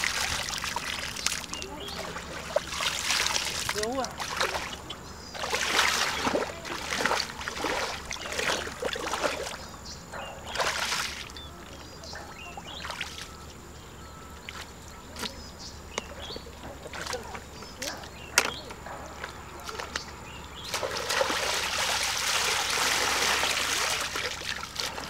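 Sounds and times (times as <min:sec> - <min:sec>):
feet wading through mud and water: 0:00.0 - 0:13.5, 0:16.1 - 0:18.3, 0:18.9 - 0:25.0.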